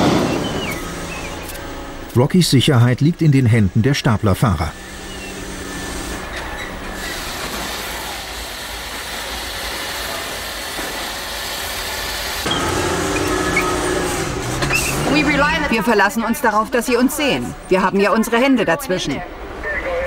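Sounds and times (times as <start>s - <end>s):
diesel engine rumble: 0.0s - 20.0s.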